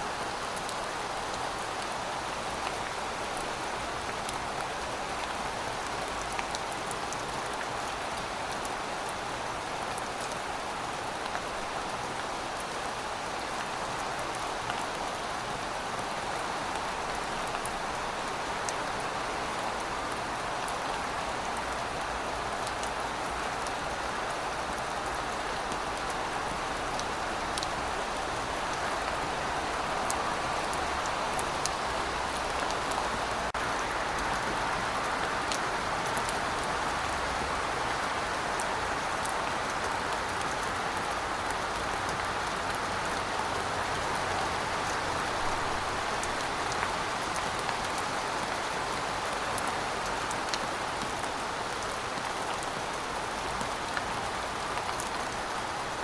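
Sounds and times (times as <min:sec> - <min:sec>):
raindrops ticking on surfaces: 0:00.1 - 0:56.0.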